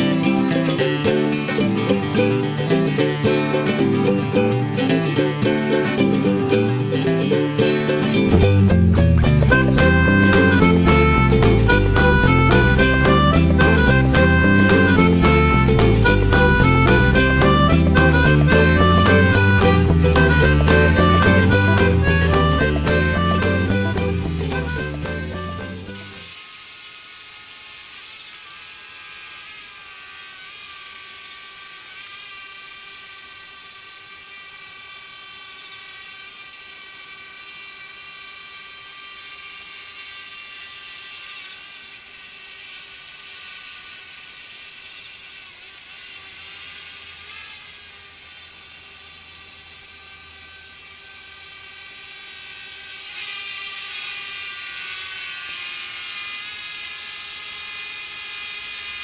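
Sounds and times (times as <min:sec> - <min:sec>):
drone propellers whining: 0:00.0 - 0:31.9, 0:41.2 - 0:59.0.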